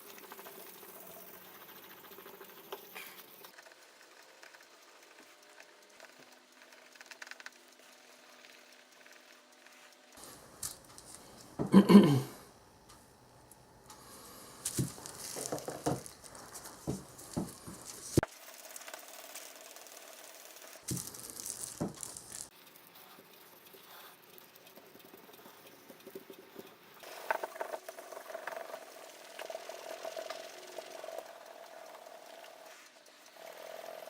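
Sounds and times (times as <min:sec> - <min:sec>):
small parts clicking and rattling: 0:00.0 - 0:11.5, 0:14.6 - 0:34.0.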